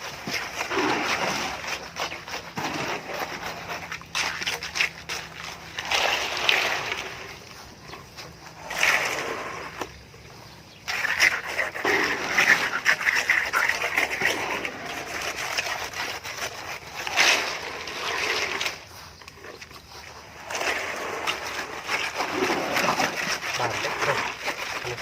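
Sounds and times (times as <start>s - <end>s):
wet concrete scraping and splattering: 0.0s - 25.0s.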